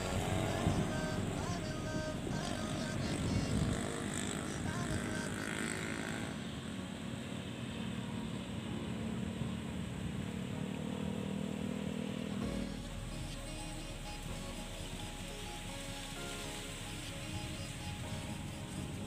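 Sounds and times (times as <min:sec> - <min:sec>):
electric motors and propellers droning: 0:00.0 - 0:19.0.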